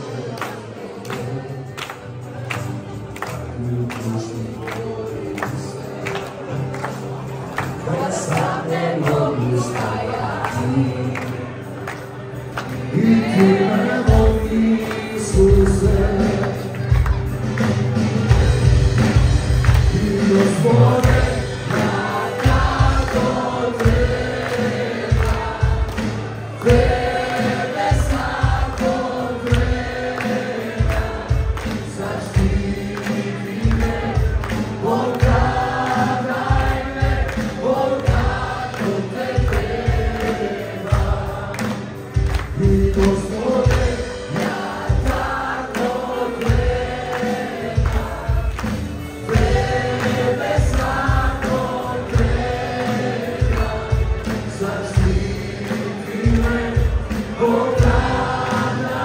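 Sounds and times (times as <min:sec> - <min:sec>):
group of voices singing: 0:00.0 - 0:59.0
hands clapping: 0:00.0 - 0:59.0.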